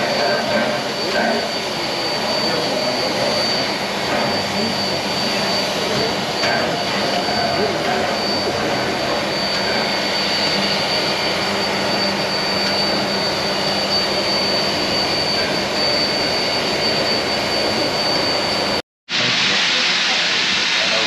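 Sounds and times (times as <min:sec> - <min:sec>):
high-pitched whine: 0:00.0 - 0:21.0
steam locomotive hissing roar: 0:00.0 - 0:21.0.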